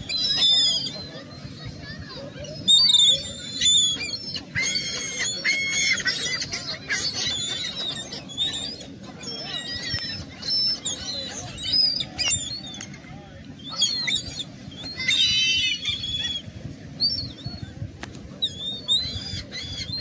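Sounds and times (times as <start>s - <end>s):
seagulls calling: 0.0s - 20.0s.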